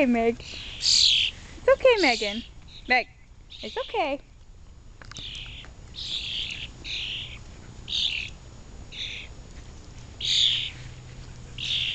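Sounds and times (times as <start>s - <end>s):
birds harsh rasping calls: 0.4s - 4.2s, 5.1s - 9.5s, 10.1s - 11.9s.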